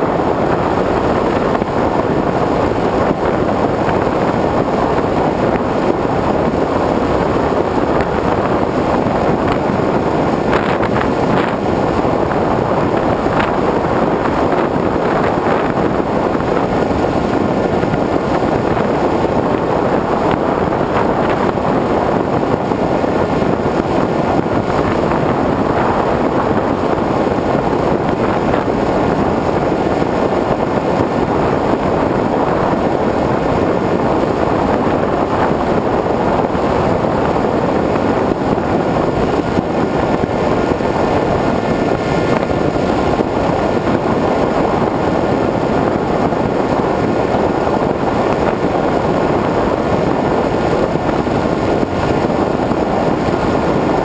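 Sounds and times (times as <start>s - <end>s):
faint propeller motor drone: 0.0s - 54.0s
rush of air: 0.0s - 54.0s.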